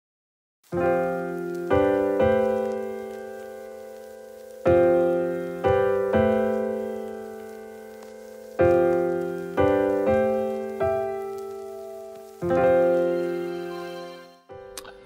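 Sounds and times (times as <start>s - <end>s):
soft piano chords: 0.7s - 15.0s.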